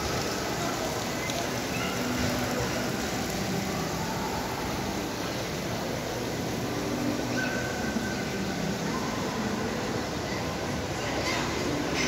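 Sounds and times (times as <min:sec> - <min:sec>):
faint distant voices: 0:00.0 - 0:12.0
shopping mall background noise: 0:00.0 - 0:12.0.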